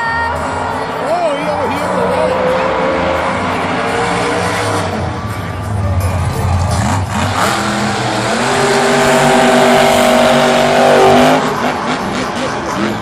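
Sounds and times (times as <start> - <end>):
truck engines at full throttle: 0.0 - 13.0.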